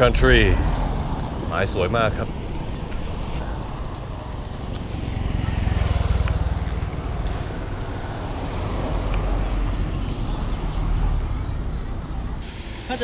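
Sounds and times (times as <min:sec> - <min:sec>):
cars passing on wet street: 0:00.0 - 0:13.0.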